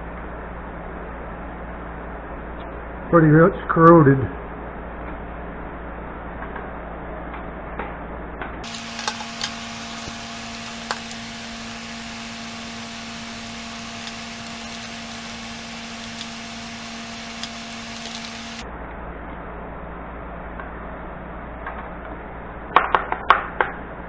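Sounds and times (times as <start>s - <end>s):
steady low hum: 0.0s - 21.1s.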